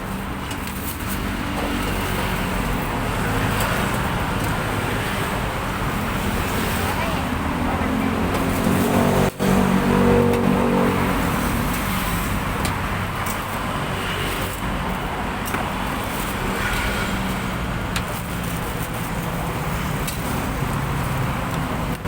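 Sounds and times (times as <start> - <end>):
road traffic engine hum: 0.0 - 22.0.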